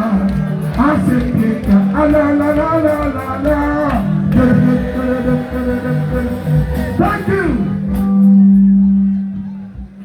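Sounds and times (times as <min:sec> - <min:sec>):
person singing: 0:00.0 - 0:09.6
steady bass beat: 0:00.0 - 0:10.0.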